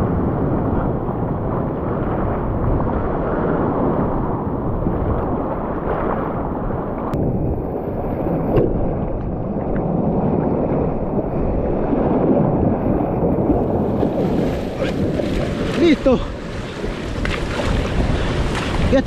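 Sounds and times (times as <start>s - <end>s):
waves breaking against rocks: 0.0s - 19.0s
wind rumbling on microphone: 0.0s - 19.0s.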